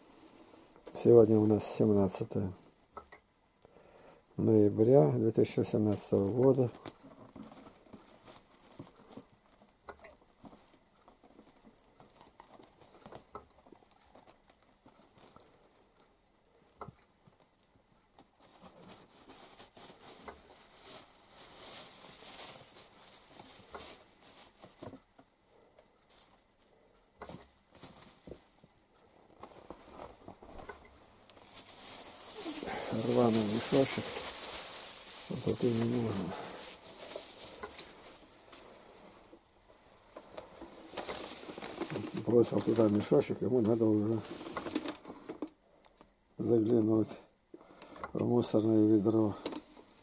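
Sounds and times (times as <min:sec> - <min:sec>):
plastic sacks rustling: 0:04.4 - 0:15.8, 0:17.3 - 0:25.2, 0:26.1 - 0:45.6, 0:48.0 - 0:50.0.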